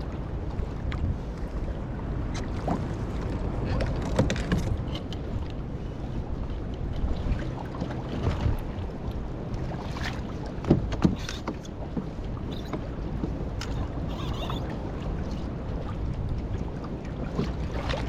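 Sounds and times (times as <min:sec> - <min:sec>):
water sloshing around kayak: 0:00.0 - 0:18.0
wind buffeting microphone: 0:00.0 - 0:18.0.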